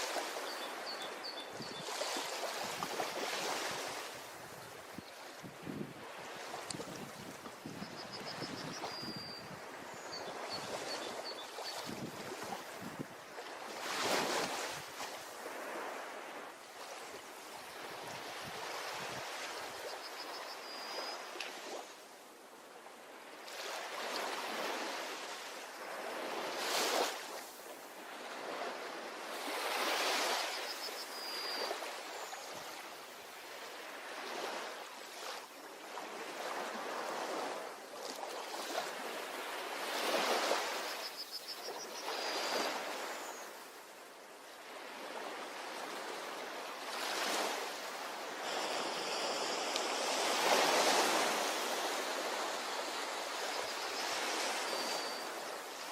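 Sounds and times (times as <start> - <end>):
sea waves breaking on beach: 0.0 - 22.1, 22.9 - 55.9.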